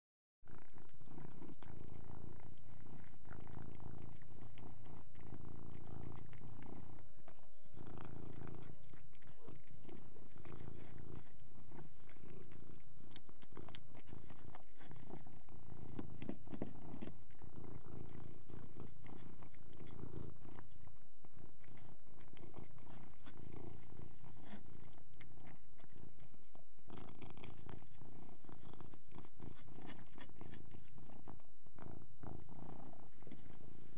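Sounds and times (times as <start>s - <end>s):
cat purring: 0.5s - 33.9s.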